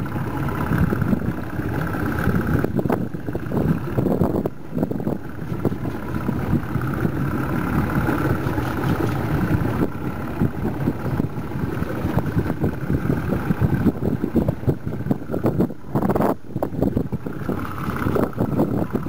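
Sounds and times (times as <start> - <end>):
boat engine idling: 0.0 - 19.0
wind buffeting microphone: 0.0 - 19.0.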